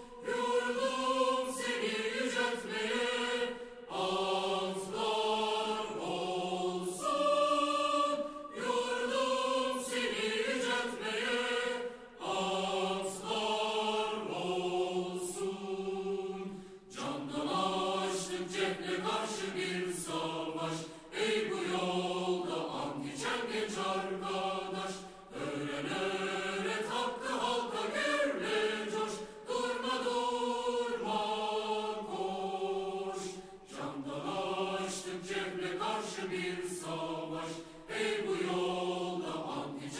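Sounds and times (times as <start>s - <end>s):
choir singing slow song: 0.0s - 39.9s.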